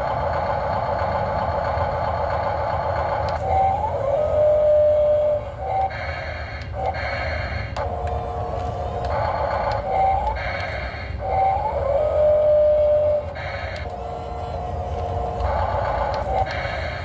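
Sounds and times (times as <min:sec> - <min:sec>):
electric motors whining: 0:02.2 - 0:17.0.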